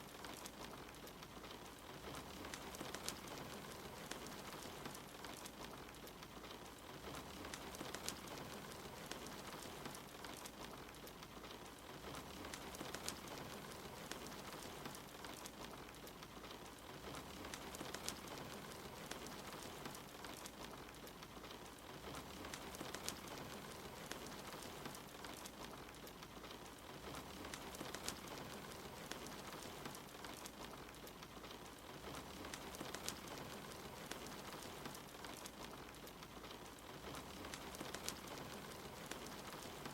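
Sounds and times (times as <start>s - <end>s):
soft rain falling: 0.0s - 39.9s
wood fire crackling: 0.0s - 39.9s.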